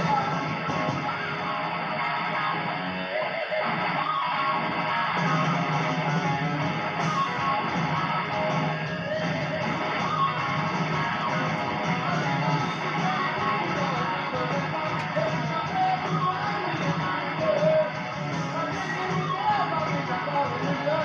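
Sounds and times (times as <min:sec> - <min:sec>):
strummed electric guitar music: 0:00.0 - 0:21.0.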